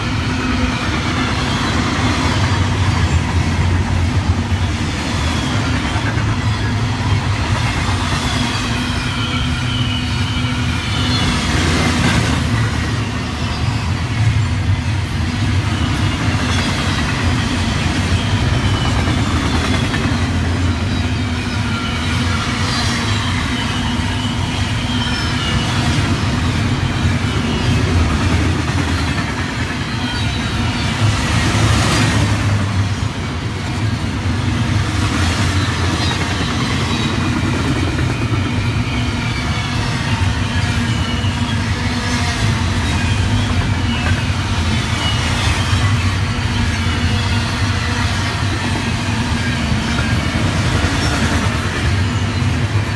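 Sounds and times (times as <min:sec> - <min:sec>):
train wheels rumbling on rail: 0:00.0 - 0:52.9
high-pitched wheel squeals: 0:04.5 - 0:52.9.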